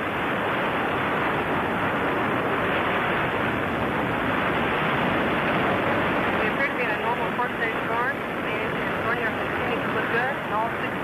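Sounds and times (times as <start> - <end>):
rocket engine roar: 0.0 - 11.0.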